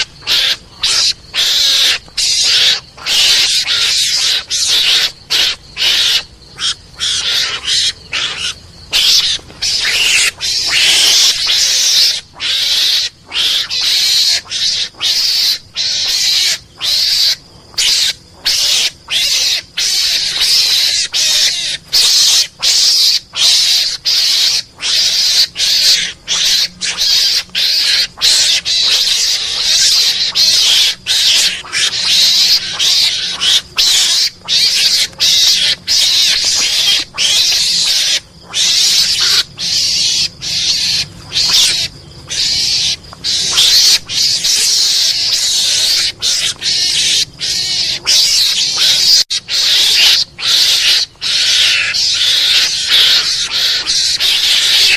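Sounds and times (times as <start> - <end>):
harsh hissing animal calls: 0.0 - 54.9.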